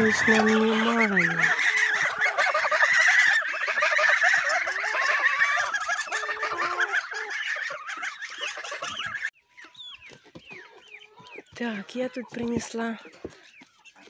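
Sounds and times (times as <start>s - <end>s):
geese cackling: 0.0s - 14.0s.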